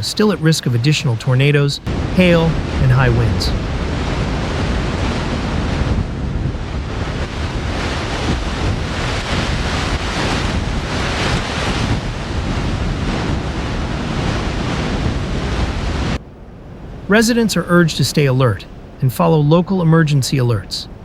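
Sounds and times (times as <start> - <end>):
storm wind buffeting microphone: 0.0 - 19.7.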